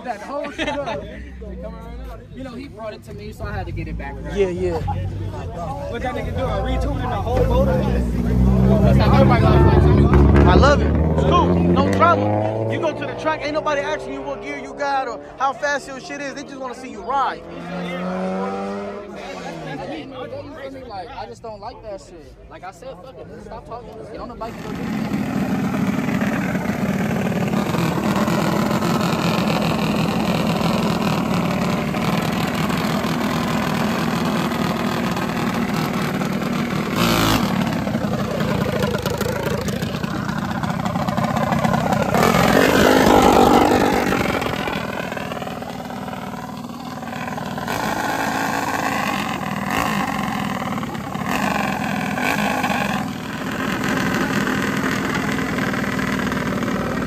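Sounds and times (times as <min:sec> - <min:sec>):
minibike engines revving: 0:03.1 - 0:20.0, 0:24.2 - 0:57.0.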